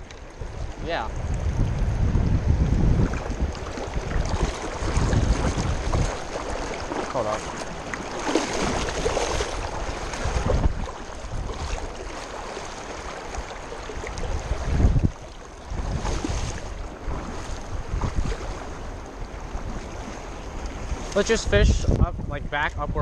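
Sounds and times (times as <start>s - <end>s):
wind buffeting microphone: 0.0s - 23.0s
river water rushing: 2.7s - 21.5s.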